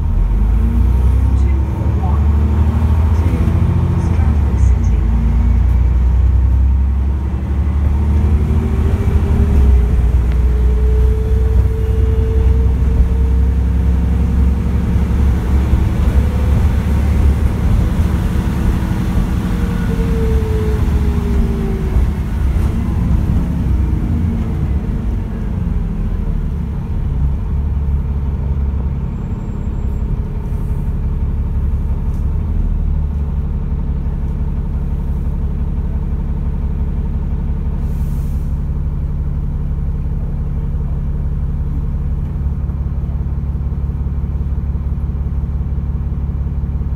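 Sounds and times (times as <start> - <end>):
bus engine rumble: 0.0 - 46.9
drivetrain whine: 0.0 - 46.9.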